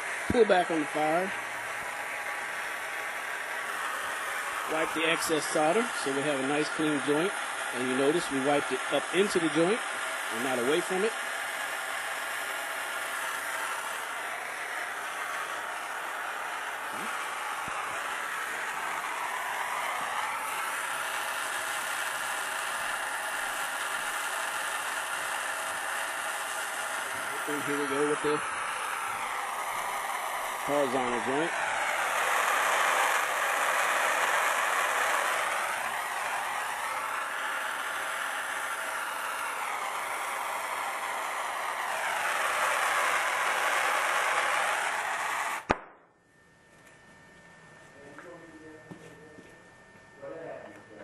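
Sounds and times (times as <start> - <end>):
torch flame hissing: 0.0 - 45.8.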